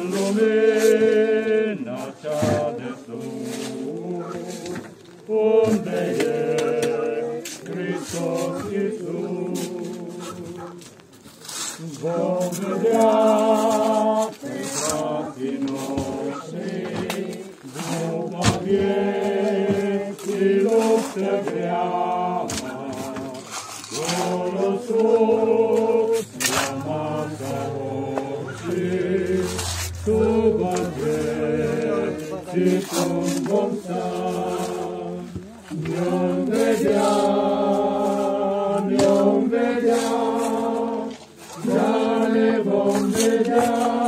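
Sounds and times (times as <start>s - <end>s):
group singing a hymn: 0.0s - 44.0s.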